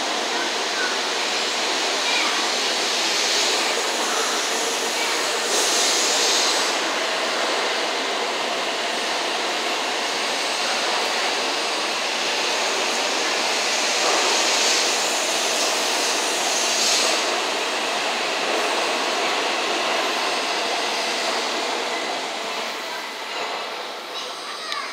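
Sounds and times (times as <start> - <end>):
train rushing past platform: 0.0 - 24.9.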